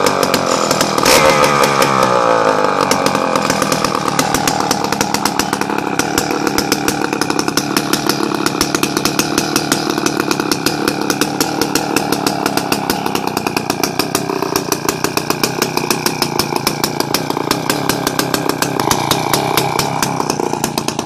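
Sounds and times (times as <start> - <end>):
chainsaw engine idling: 0.0 - 21.0.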